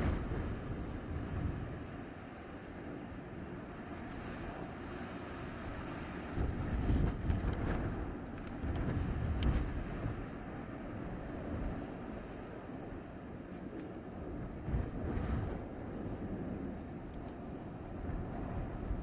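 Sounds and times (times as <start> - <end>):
gusty blizzard wind: 0.0 - 19.0.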